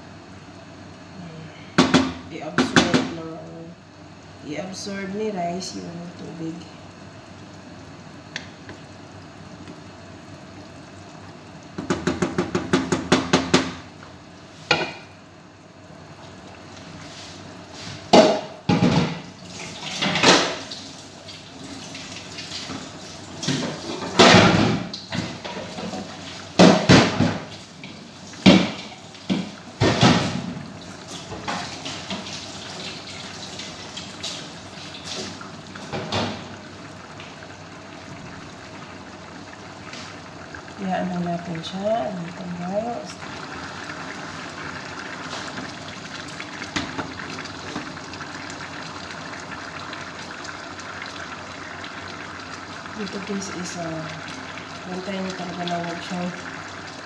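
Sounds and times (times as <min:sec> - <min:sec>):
broth bubbling in pot: 0:00.0 - 0:57.0.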